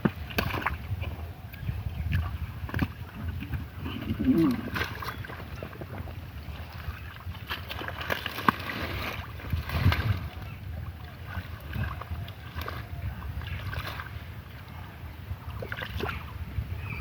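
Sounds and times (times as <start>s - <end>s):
river water splashing: 0.0s - 17.0s
wind on microphone: 0.0s - 17.0s.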